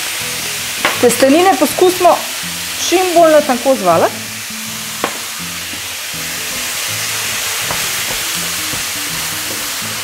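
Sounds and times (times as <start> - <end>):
meat sizzling in a hot pan: 0.0 - 10.0.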